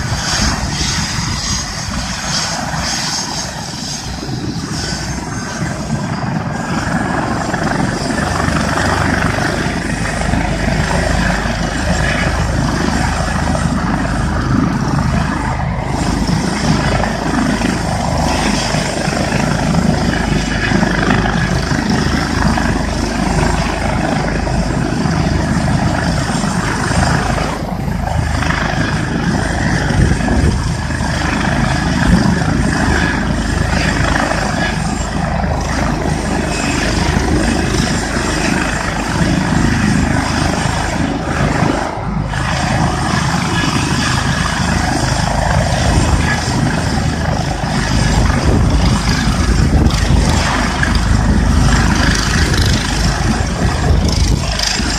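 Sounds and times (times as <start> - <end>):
helicopter rotor and engine: 0.0 - 54.9.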